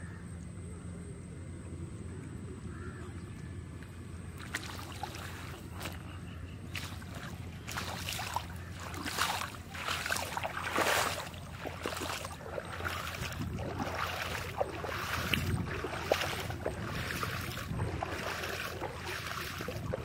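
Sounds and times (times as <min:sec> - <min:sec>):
water splashing and sloshing: 0:03.8 - 0:20.0.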